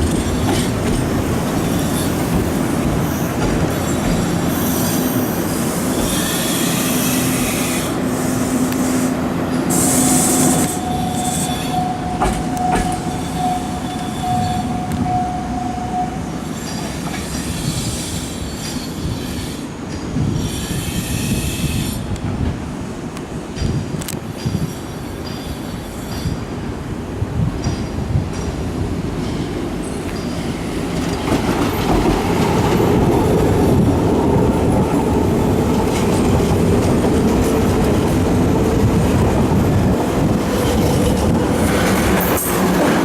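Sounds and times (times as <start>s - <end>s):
train rolling: 0.0s - 43.0s.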